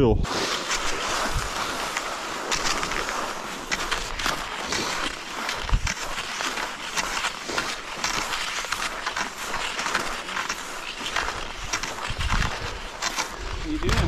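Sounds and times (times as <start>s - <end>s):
ski poles crunching in snow: 0.2s - 14.0s
skis swishing and scraping on snow: 0.2s - 14.0s.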